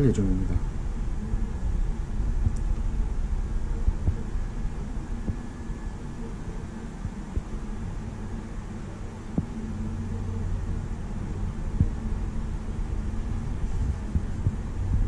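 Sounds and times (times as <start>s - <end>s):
laptop low hum: 0.0s - 15.0s.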